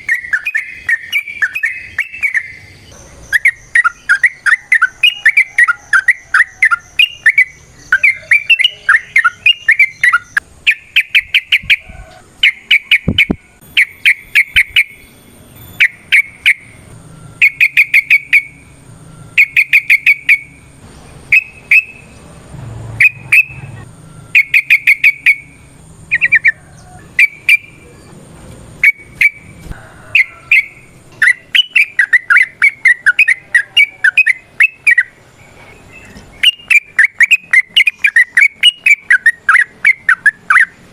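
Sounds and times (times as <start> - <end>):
bird chattering song: 0.0 - 16.8, 17.4 - 18.7, 19.3 - 22.3, 23.0 - 28.2, 28.8 - 40.9
faint high whine: 0.0 - 40.9.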